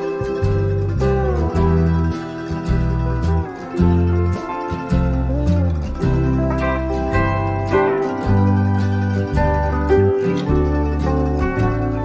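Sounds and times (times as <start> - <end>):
deep bass notes: 0.0 - 12.0
light ticking beat: 0.0 - 12.0
melody of short notes: 0.0 - 12.0.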